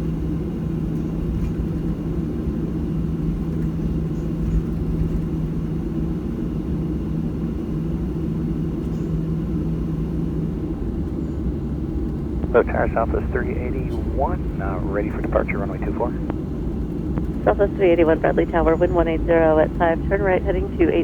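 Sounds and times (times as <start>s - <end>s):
jet engine cabin drone: 0.0s - 21.0s.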